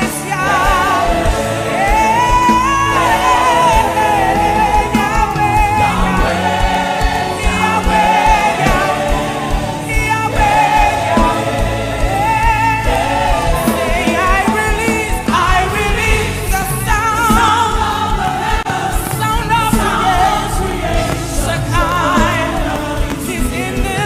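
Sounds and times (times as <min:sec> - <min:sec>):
backing choir: 0:00.0 - 0:24.0
band beat: 0:00.0 - 0:24.0.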